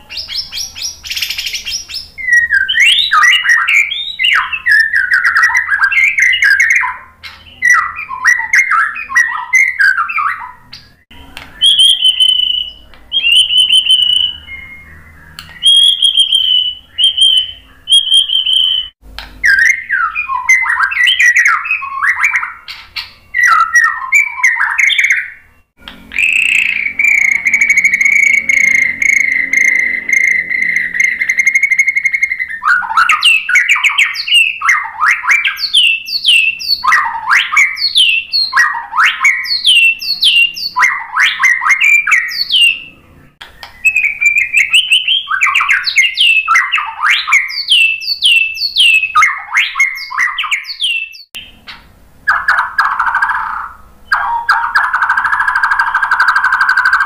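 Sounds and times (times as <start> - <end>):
bird singing whistled phrases: 0.0 - 57.0.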